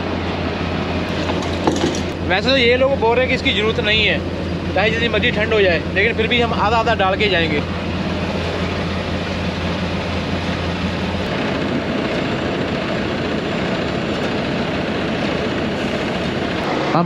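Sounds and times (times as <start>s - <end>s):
engine running: 0.0s - 17.0s
low hum: 0.0s - 17.0s.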